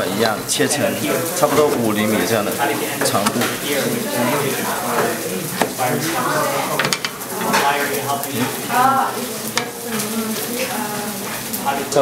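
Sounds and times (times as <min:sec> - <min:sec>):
frying pan sizzling: 0:00.0 - 0:12.0.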